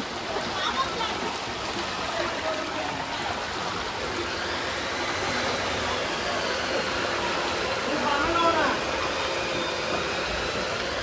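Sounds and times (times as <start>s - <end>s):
heavy rain pouring: 0.0s - 9.5s
water running: 0.0s - 11.0s.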